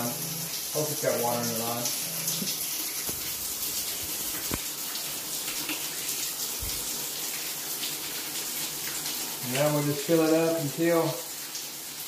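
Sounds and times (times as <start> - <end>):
shower spray splashing: 0.0 - 12.0.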